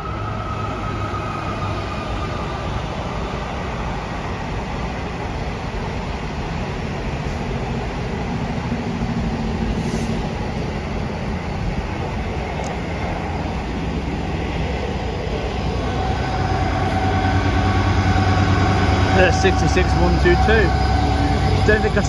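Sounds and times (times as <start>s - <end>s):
diesel locomotive rumbling: 0.0s - 22.0s
locomotive engine drone: 0.0s - 22.0s.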